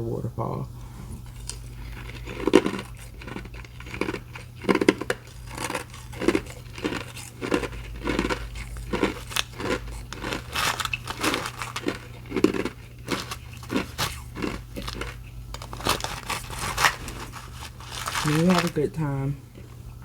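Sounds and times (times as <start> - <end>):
ice being crunched and chewed: 1.2 - 20.0.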